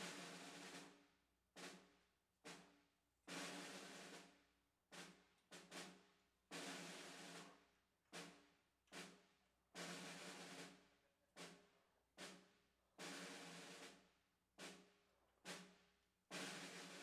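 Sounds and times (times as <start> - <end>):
faint snare drum marching cadence: 0.0 - 17.0.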